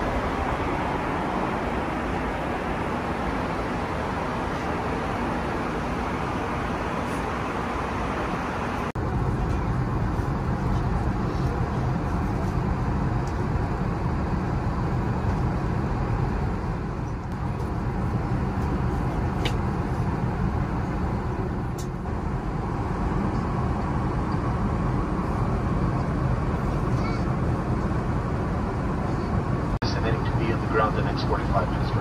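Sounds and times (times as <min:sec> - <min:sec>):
aircraft cabin engine rumble: 0:00.0 - 0:32.0.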